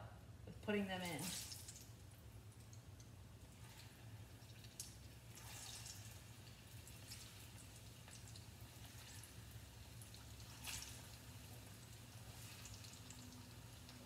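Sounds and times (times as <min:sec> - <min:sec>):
low steady hum: 0:00.0 - 0:14.0
frying in hot oil with crackles: 0:00.6 - 0:14.0.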